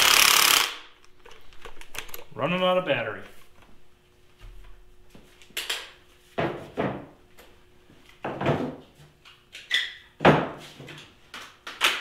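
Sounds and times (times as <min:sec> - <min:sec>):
faint steady hum: 0:00.0 - 0:11.6.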